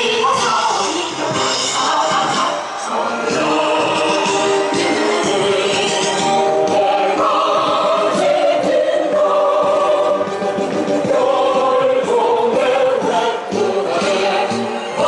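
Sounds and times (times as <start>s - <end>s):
music: 0.0s - 15.0s
choir singing: 0.2s - 15.0s.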